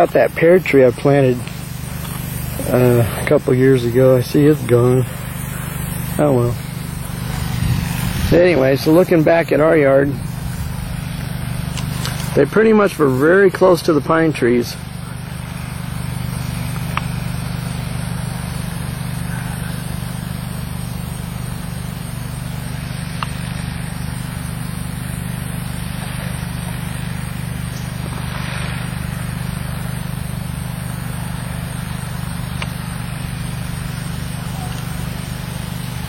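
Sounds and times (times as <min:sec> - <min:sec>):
low engine drone: 0:00.0 - 0:36.0.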